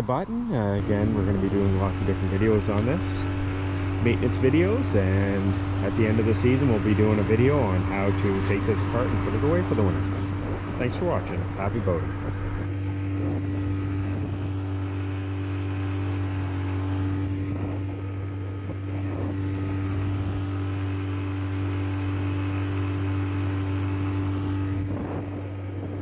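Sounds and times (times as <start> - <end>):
outboard motor droning: 0.6 - 26.0
water noise: 0.8 - 26.0
wind noise: 0.8 - 26.0.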